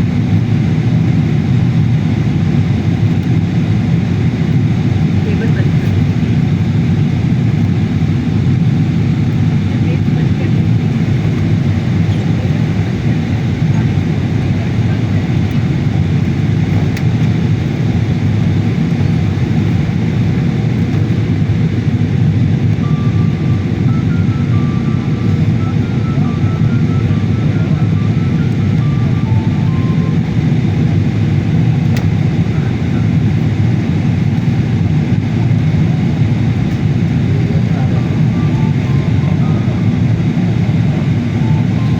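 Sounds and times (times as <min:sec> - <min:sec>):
airliner cabin engine roar: 0:00.0 - 0:41.9.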